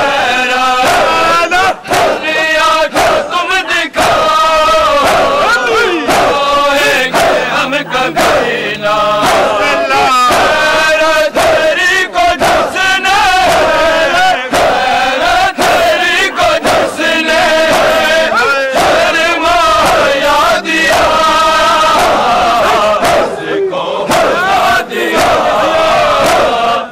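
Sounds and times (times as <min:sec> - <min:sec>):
crowd of men chanting: 0:00.0 - 0:26.9.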